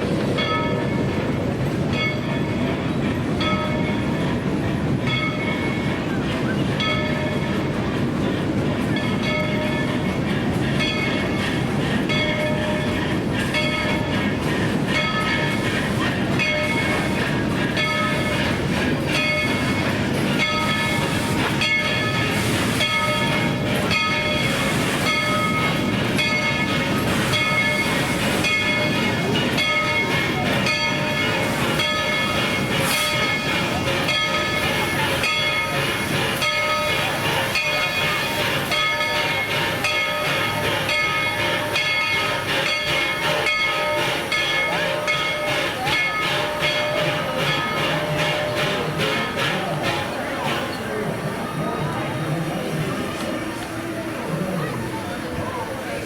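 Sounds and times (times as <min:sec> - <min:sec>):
locomotive bell ringing: 0:00.0 - 0:56.0
steam locomotive rumbling: 0:00.0 - 0:56.0.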